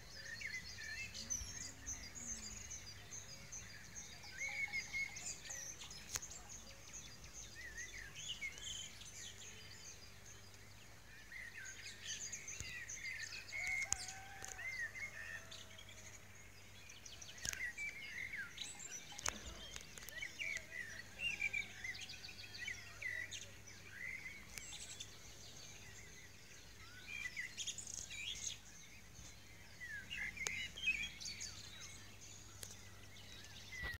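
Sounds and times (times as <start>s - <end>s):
songbirds singing and chirping: 0.0s - 34.0s.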